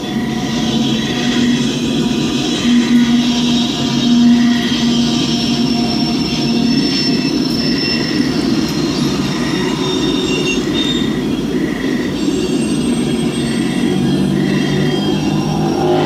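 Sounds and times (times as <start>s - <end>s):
freight train cars rolling: 0.0s - 16.0s
wheels squealing: 0.0s - 16.0s.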